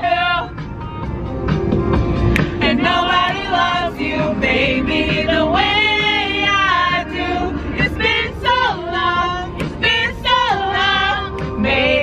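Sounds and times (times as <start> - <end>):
backing music: 0.0 - 12.0.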